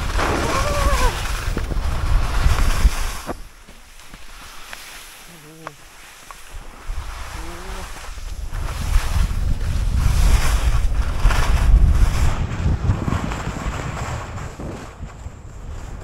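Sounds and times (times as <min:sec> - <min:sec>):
wind buffeting microphone: 0:00.0 - 0:03.7, 0:06.5 - 0:16.0.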